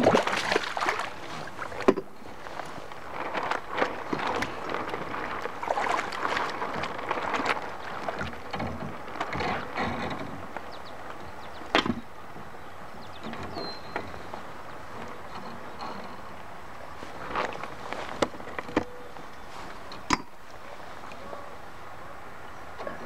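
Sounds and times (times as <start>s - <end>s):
fishing gear rustling and knocking: 0.0s - 12.6s, 13.2s - 21.2s.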